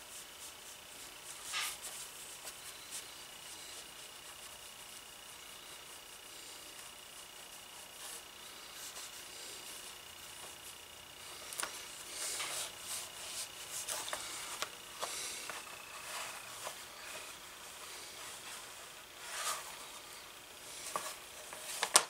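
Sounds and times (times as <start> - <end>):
hands rubbing leather: 0.1 - 10.7, 11.3 - 19.8.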